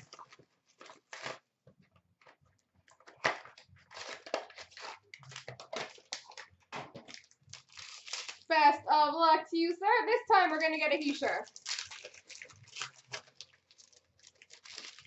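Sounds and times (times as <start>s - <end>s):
cardboard packaging crinkling: 0.0s - 8.5s, 11.2s - 15.0s.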